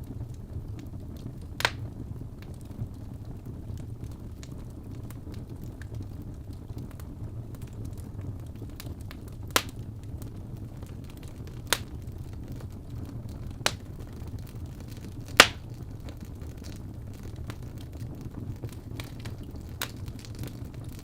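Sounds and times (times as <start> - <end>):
fire crackling: 0.0 - 21.0
sharp pops from burning logs: 0.3 - 2.9, 3.8 - 21.0.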